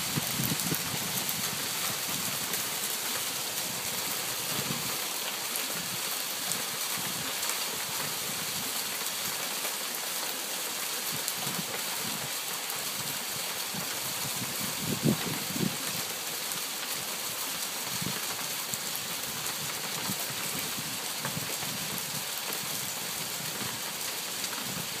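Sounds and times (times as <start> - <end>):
hail falling: 0.0 - 25.0.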